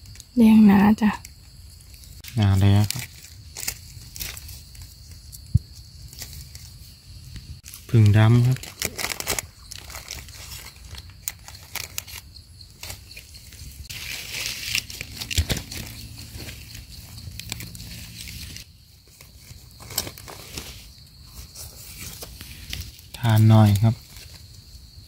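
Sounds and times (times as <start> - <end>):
dry leaves rustling: 1.8 - 7.0, 7.6 - 24.8.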